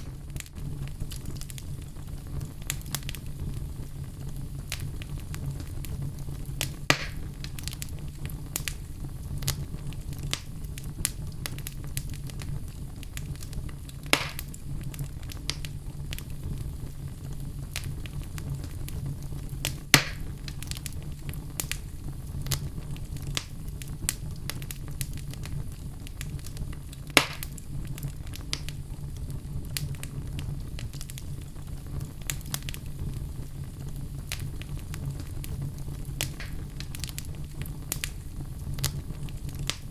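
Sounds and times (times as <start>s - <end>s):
fire crackling in a fireplace: 0.0s - 39.9s
fire popping sharply: 0.0s - 39.9s.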